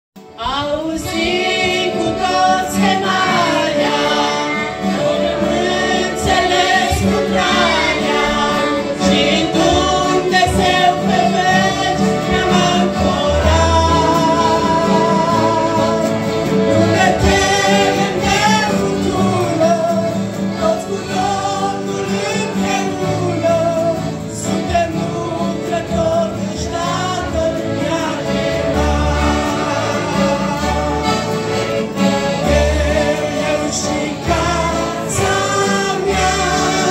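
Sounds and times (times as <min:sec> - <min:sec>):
accordions: 0:00.2 - 0:36.9
acoustic guitars: 0:00.2 - 0:36.9
woman singing a hymn: 0:00.3 - 0:30.8, 0:32.4 - 0:36.9
group singing along: 0:00.4 - 0:36.9.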